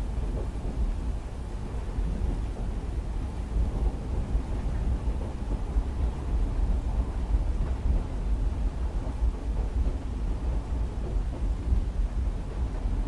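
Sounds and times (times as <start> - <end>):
deep rumble of moving train: 0.0 - 13.0
rain on a window: 0.0 - 13.0.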